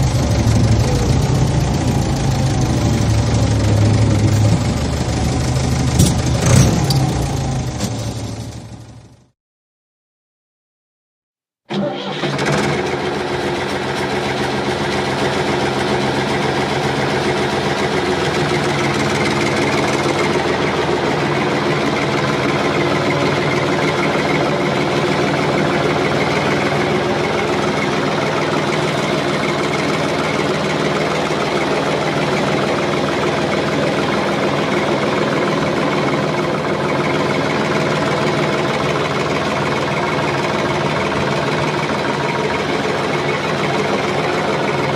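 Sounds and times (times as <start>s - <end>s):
farm vehicle engine running: 0.0s - 9.3s, 11.7s - 44.9s.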